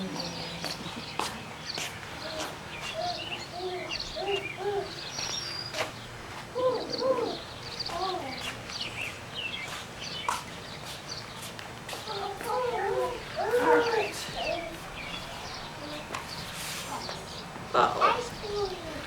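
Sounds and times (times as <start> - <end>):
children chattering and calling out: 0.0 - 9.8, 11.8 - 19.0.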